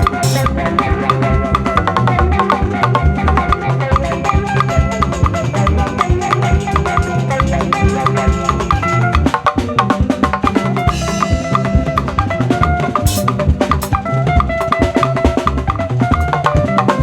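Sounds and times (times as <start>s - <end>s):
bass line: 0.0s - 17.0s
drum kit beat: 0.0s - 17.0s
repeating melodic riffs: 0.0s - 17.0s.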